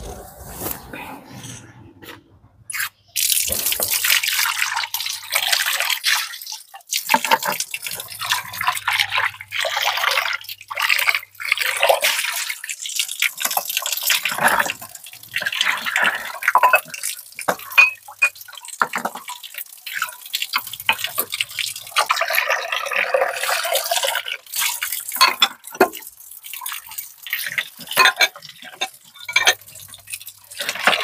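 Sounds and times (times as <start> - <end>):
water running from a tap: 3.2 - 31.0
water splashing on bowls: 3.2 - 31.0.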